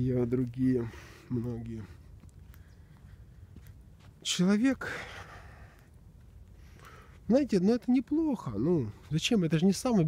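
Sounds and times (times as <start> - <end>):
faint low rumble: 0.0 - 10.0.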